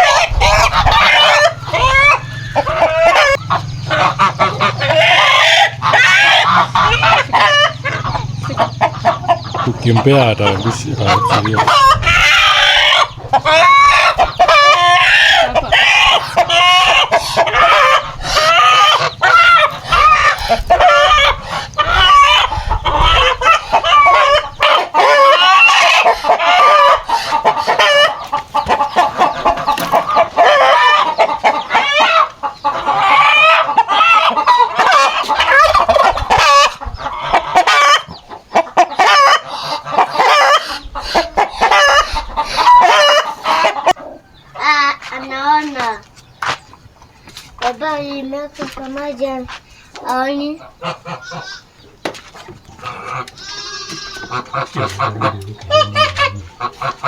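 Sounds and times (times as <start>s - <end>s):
chickens clucking and calling: 0.0s - 57.0s.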